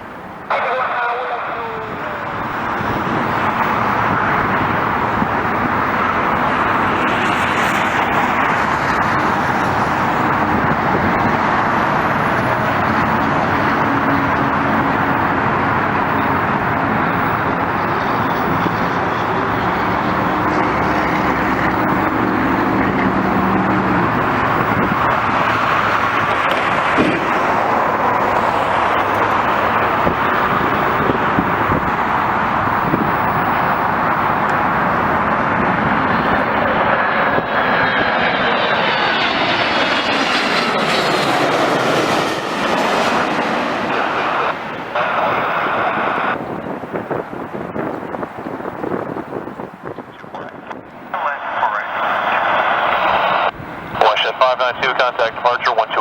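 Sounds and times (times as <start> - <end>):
vehicle roar: 0.0 - 56.0.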